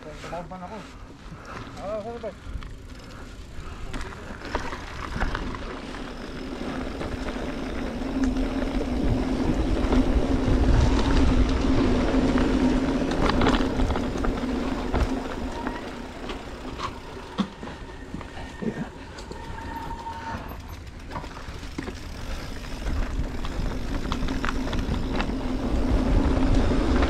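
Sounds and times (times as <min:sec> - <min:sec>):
bike tyres on dirt trail: 0:00.0 - 0:27.0.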